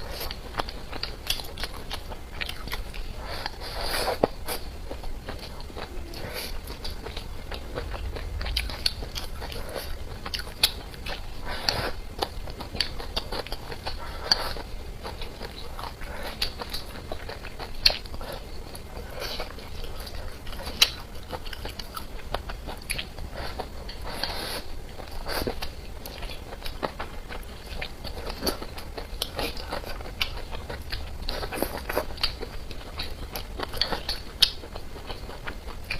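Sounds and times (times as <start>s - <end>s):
person chewing food: 0.0s - 35.9s.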